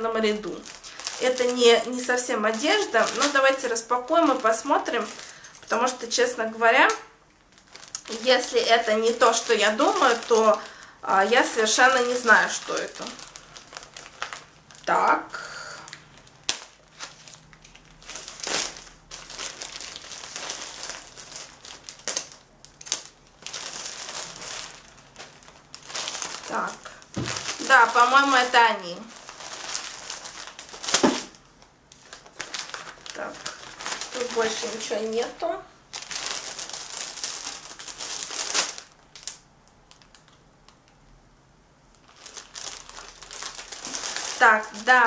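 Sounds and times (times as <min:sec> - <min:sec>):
plastic bag crinkling: 0:00.0 - 0:40.4, 0:41.9 - 0:45.0.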